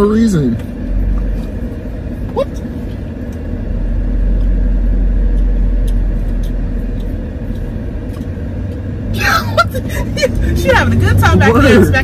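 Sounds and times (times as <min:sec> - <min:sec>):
car engine rumble and road noise: 0:00.0 - 0:12.0.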